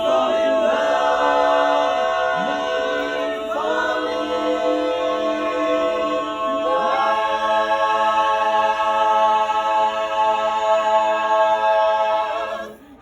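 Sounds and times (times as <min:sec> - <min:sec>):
vocal groups singing a cappella: 0:00.0 - 0:13.0.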